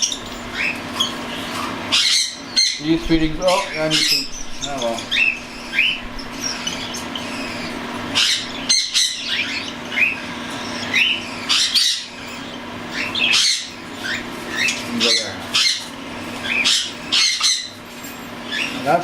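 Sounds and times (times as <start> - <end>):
cockatiels chirping and squawking: 0.0 - 19.0.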